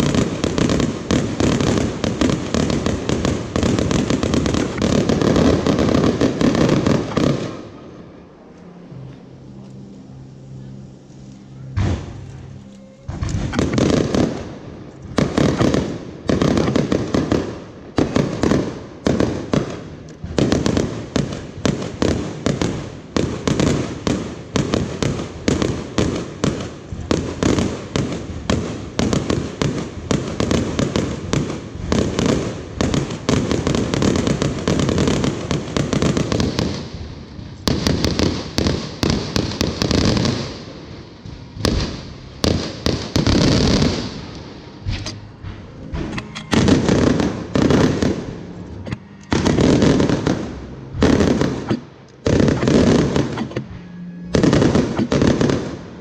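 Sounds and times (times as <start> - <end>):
fireworks bangs and crackles: 0.0 - 8.2, 11.7 - 56.0.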